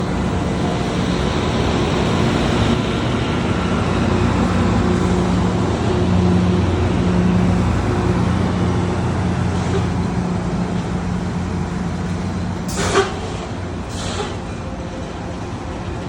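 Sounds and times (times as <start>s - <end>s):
broad mechanical noise: 0.0s - 16.0s
diesel engines running: 0.0s - 16.0s.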